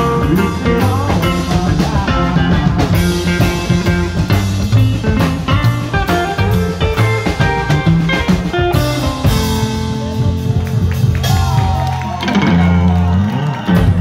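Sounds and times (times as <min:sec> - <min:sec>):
drum kit: 0:00.0 - 0:14.0
electric guitar: 0:00.0 - 0:14.0
upright double bass: 0:00.0 - 0:14.0.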